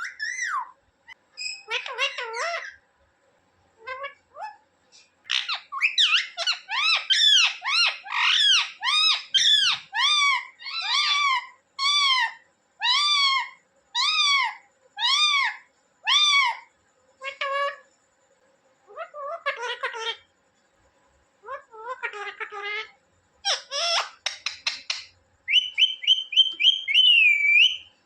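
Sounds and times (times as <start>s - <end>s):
parakeet calling: 0.0s - 2.8s, 3.8s - 4.6s, 5.3s - 17.8s, 18.9s - 20.3s, 21.4s - 28.0s.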